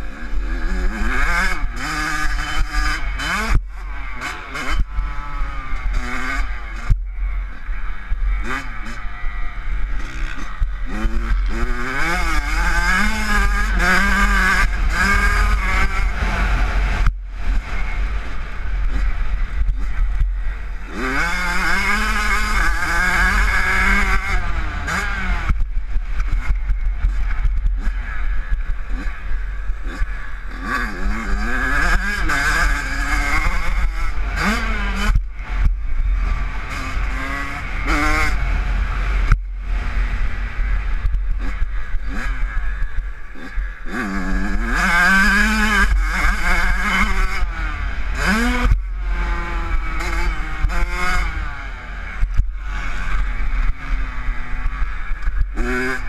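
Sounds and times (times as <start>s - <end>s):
motocross bike engine revving: 0.0s - 56.0s
wind rumble on microphone: 0.0s - 56.0s.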